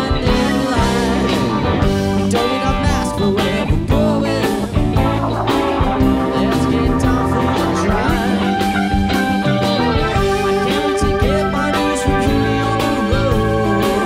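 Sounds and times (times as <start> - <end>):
electric guitar lead with bent notes: 0.0 - 14.0
live rock band playing: 0.0 - 14.0.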